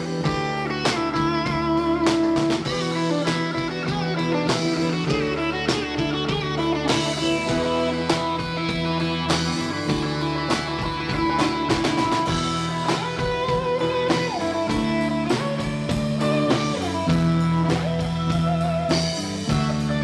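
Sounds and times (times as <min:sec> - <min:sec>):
bass: 0:00.0 - 0:20.0
drum kit beat: 0:00.0 - 0:20.0
electric guitar lead: 0:00.0 - 0:20.0.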